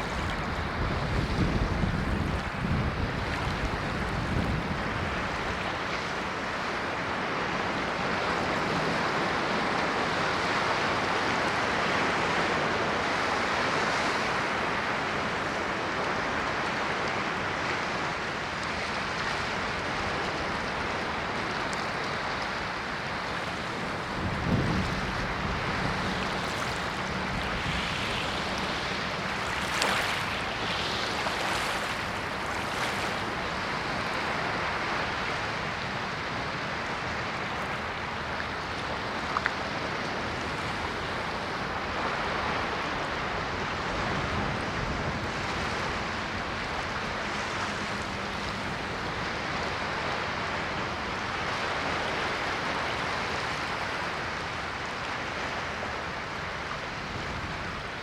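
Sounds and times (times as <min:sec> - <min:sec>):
waves breaking and washing in: 0:00.0 - 0:58.0.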